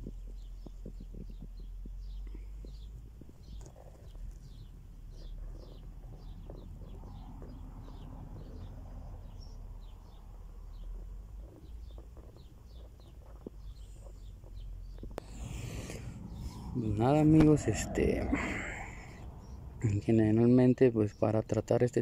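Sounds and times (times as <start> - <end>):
steady low rumble: 0.0 - 21.0
bird chirping: 0.0 - 21.9.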